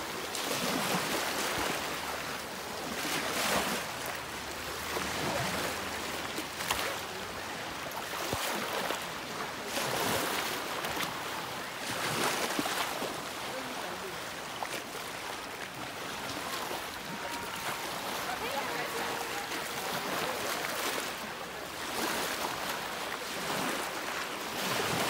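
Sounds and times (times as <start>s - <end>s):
small waves lapping on shore: 0.0s - 25.0s.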